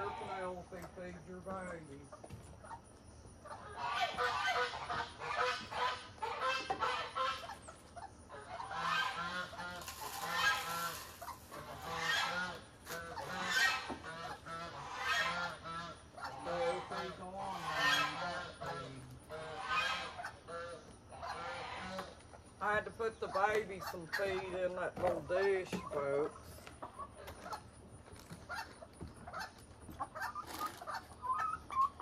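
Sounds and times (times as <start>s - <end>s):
geese honking: 0.0s - 2.0s, 3.4s - 27.7s.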